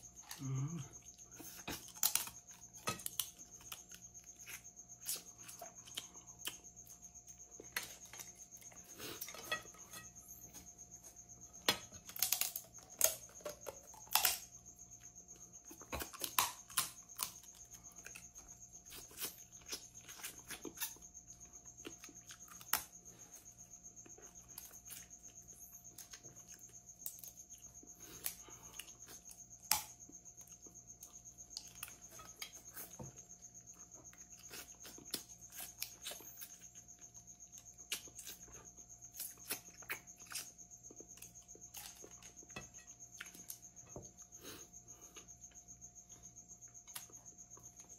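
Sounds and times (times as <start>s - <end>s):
insect trilling: 0.0s - 47.9s.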